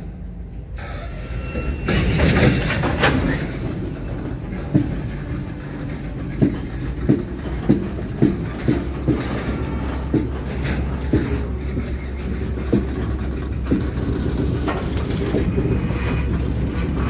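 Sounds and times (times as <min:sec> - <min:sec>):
freight train low rumble: 0:00.0 - 0:17.0
wheel clacks over rail joints: 0:00.3 - 0:17.0.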